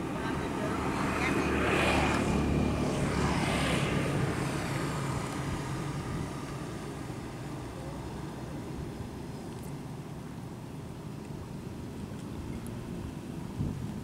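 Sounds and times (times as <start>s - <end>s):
motor engine low hum: 0.0s - 14.0s.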